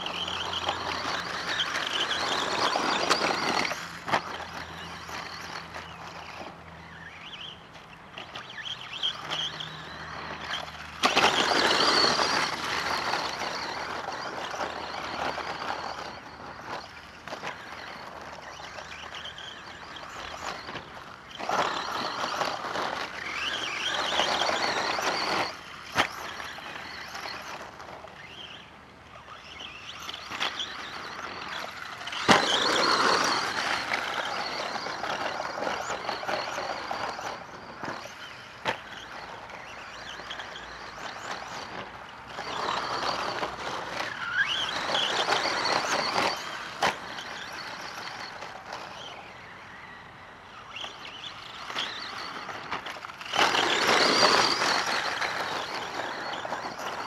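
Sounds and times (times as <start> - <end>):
rc truck motor whine: 0.0 - 57.0
tyres scrabbling on dirt: 0.0 - 57.0.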